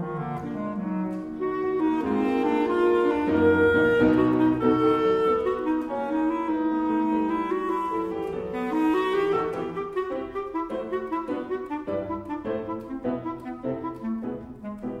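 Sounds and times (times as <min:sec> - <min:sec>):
woodwind melody over held chords: 0:00.0 - 0:15.0.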